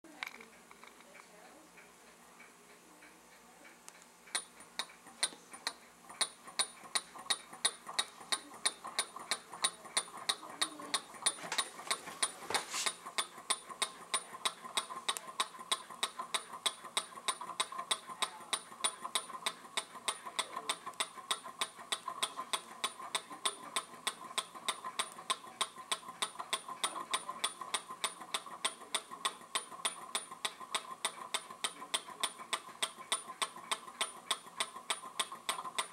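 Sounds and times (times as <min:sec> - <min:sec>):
engine mechanism ticking: 0:01.8 - 0:35.9.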